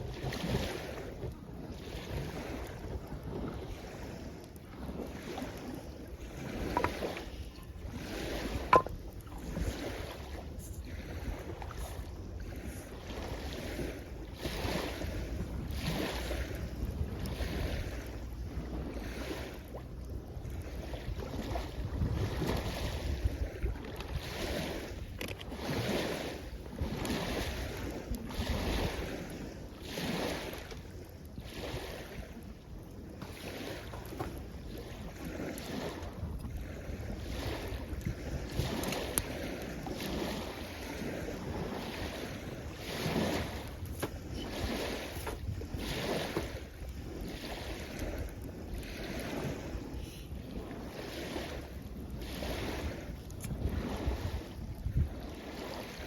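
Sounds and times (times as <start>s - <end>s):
small waves washing ashore: 0.0s - 56.0s
wind rumbling on microphone: 0.0s - 56.0s.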